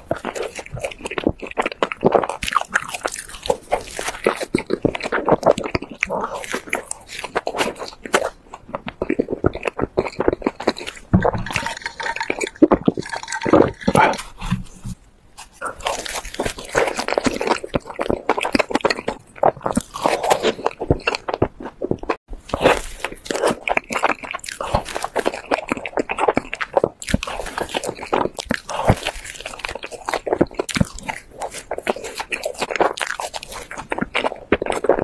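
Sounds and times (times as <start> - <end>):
person chewing and lip-smacking: 0.0 - 35.0.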